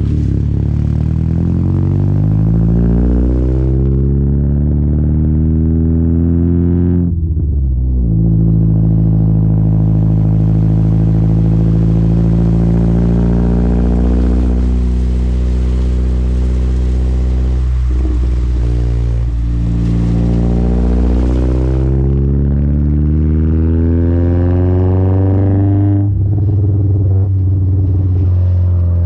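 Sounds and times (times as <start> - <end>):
loud car exhaust note: 0.0 - 29.0.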